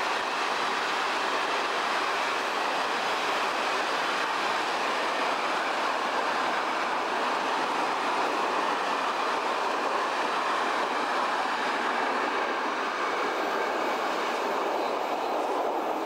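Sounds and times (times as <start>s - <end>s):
train coaches running on track: 0.0s - 16.0s.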